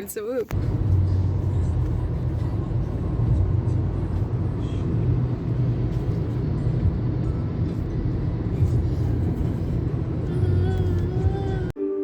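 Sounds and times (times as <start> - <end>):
car engine and tyre road noise: 0.0 - 11.8.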